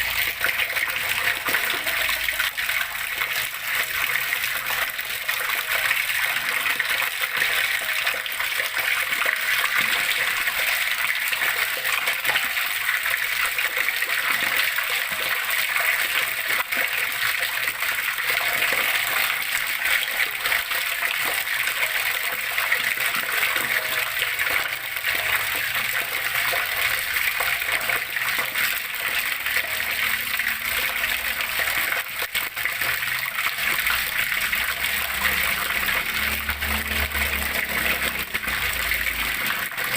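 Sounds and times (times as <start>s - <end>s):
water flowing and splashing: 0.0s - 39.9s.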